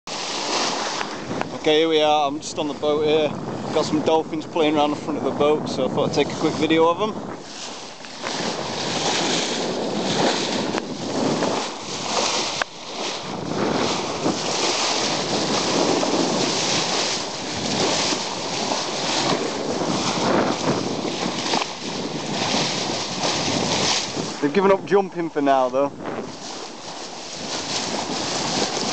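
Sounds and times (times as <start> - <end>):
water rushing along boat bow: 0.0 - 28.9
wind buffeting microphone: 0.1 - 28.9.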